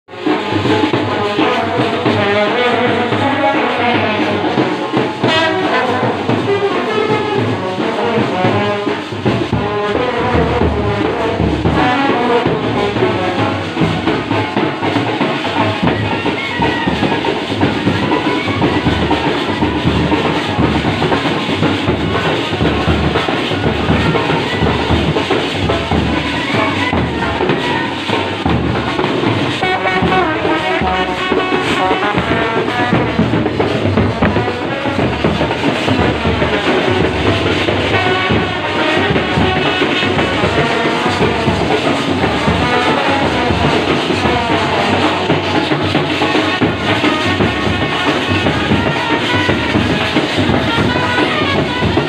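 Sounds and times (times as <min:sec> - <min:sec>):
big bass drum beats: 0:00.1 - 0:52.0
brass band playing: 0:00.1 - 0:52.0.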